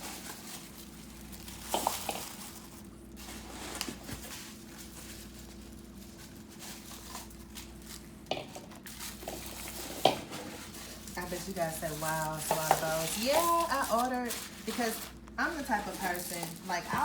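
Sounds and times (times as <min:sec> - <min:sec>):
packaging rustle: 0:00.0 - 0:17.0.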